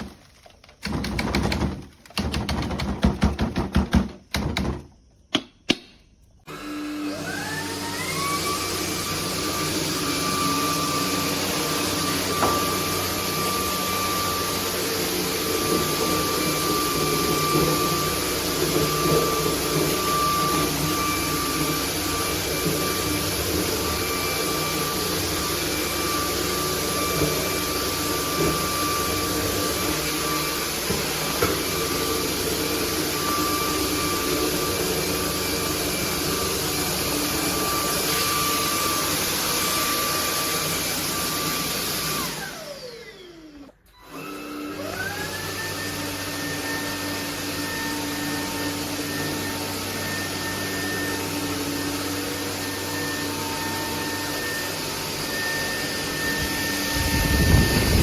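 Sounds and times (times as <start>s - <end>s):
vacuum motor whining: 6.5s - 58.0s.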